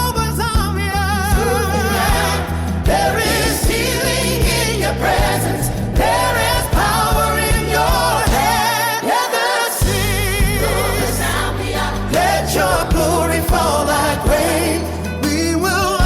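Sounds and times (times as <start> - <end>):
steady beat and bass: 0.0 - 8.8, 9.8 - 16.0
choir singing: 1.4 - 16.0.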